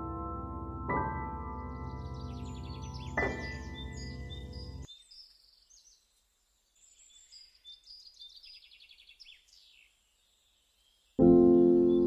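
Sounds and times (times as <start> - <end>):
small birds chirping: 1.4 - 12.0.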